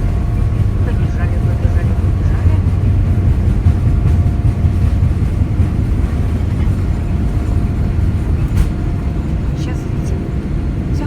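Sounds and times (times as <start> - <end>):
airliner engine rumble in cabin: 0.0 - 11.0.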